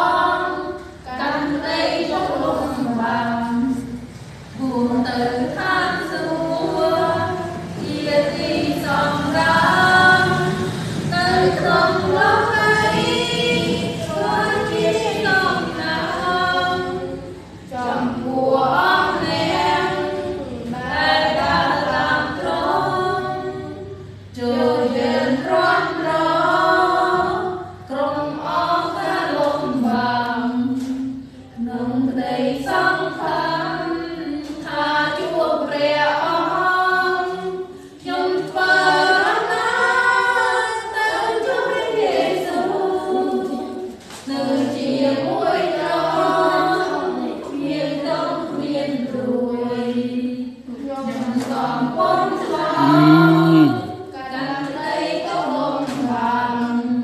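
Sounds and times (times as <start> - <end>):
women and girls singing together: 0.0 - 57.0.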